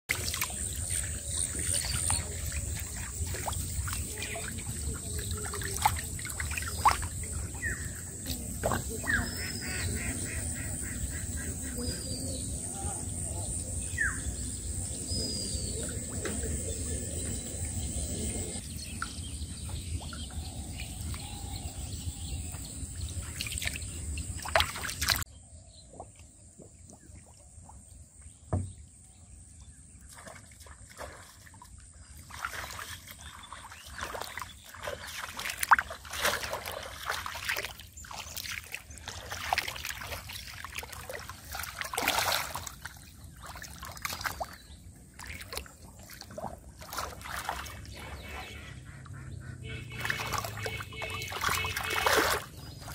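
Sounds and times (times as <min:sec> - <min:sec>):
muddy water splashing: 0:00.0 - 0:28.7, 0:29.9 - 0:52.9.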